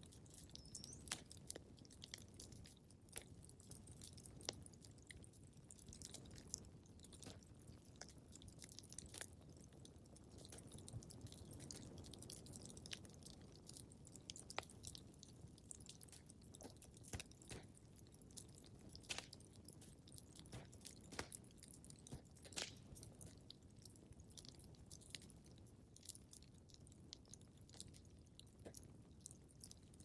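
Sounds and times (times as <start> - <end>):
fireplace crackling: 0.0 - 29.2.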